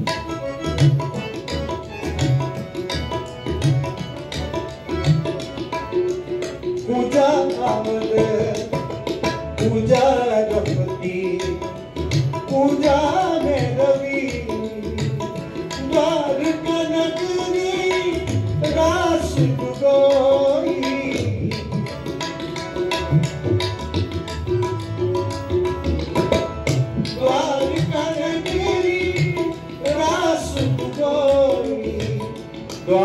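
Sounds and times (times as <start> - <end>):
devotional song melody: 0.0 - 33.0
tabla beat: 0.0 - 33.0.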